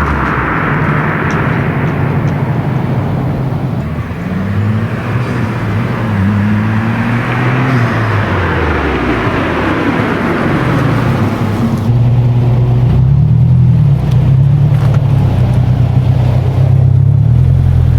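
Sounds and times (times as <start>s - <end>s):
rushing noise: 0.0s - 16.8s
car exhaust drone: 0.0s - 17.9s.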